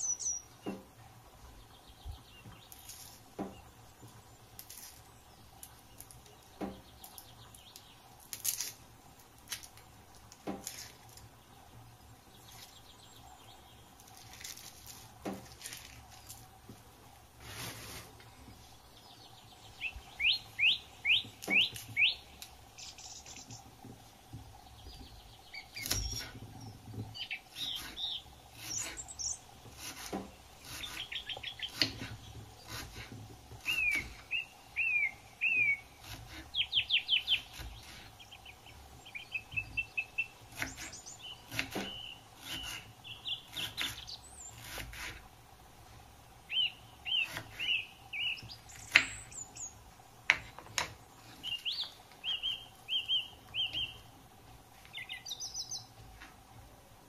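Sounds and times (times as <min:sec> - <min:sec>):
birds chirping: 0:00.0 - 0:08.7, 0:10.1 - 0:16.5, 0:17.6 - 0:45.1, 0:46.3 - 0:56.8.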